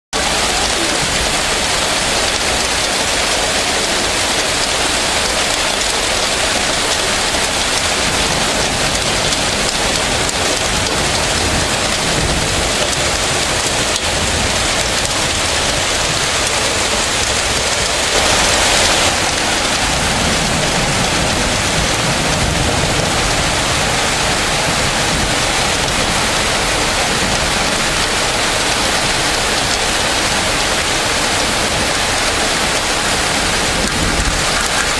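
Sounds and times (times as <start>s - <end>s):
heavy rain on trees and pavement: 0.1s - 34.9s.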